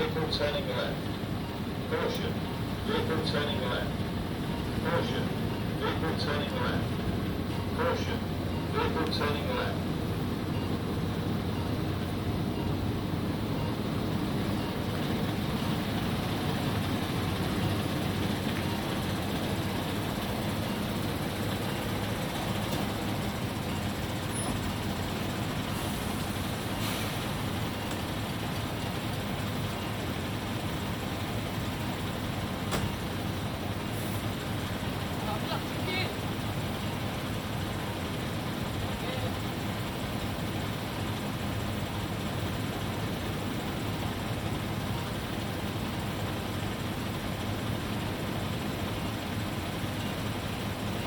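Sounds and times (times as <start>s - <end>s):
lorry diesel engine running: 0.0s - 51.0s.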